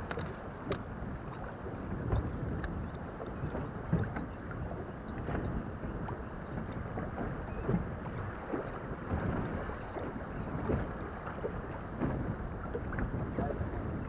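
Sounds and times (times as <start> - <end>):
water lapping against boat hull: 0.0 - 14.0
wind noise on microphone: 0.0 - 14.0.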